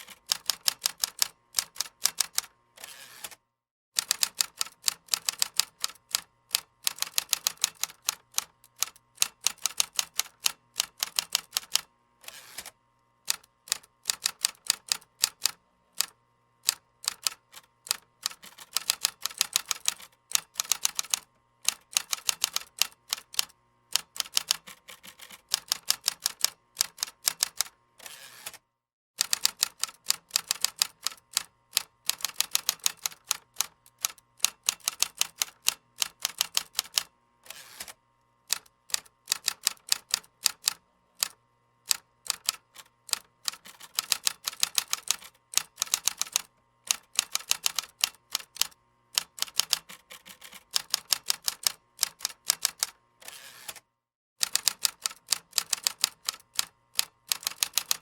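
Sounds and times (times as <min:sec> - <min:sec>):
computer keyboard typing: 0:00.0 - 0:02.5, 0:04.0 - 0:11.9, 0:13.3 - 0:16.1, 0:16.7 - 0:27.7, 0:29.2 - 0:37.1, 0:37.8 - 0:53.0, 0:54.4 - 0:58.0.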